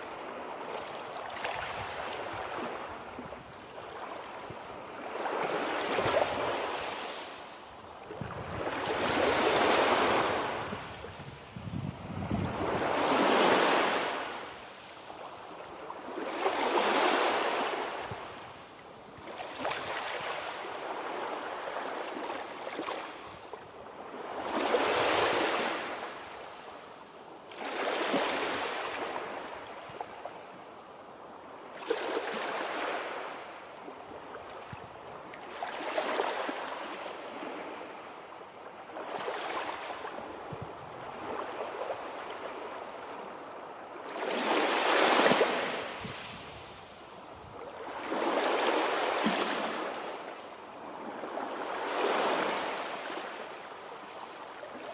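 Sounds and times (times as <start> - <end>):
sea waves breaking on shore: 0.0 - 26.6, 27.5 - 30.4, 31.6 - 54.9.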